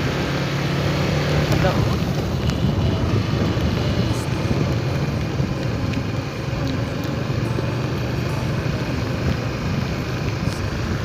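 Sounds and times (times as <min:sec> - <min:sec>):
road noise rushing: 0:00.0 - 0:11.0
vehicle engine hum: 0:00.0 - 0:11.0.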